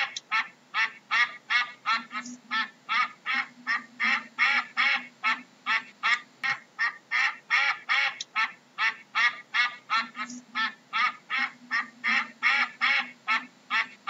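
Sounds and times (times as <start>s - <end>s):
duck quacking: 0.0s - 14.0s.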